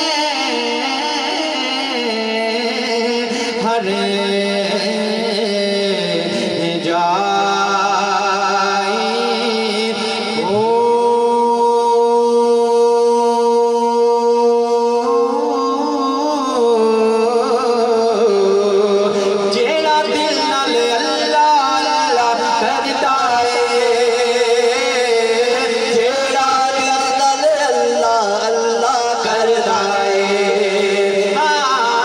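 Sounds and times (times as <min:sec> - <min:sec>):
man singing devotional melody: 0:00.0 - 0:32.0.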